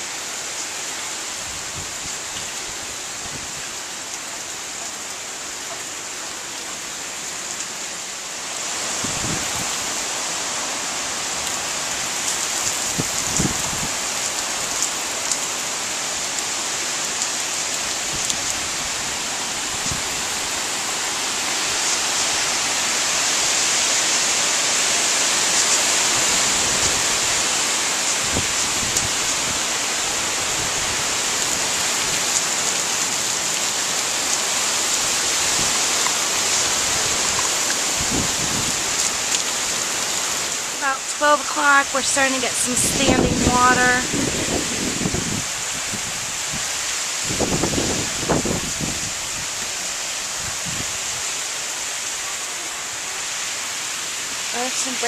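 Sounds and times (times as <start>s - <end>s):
heavy rain and gusting wind: 0.0s - 55.0s.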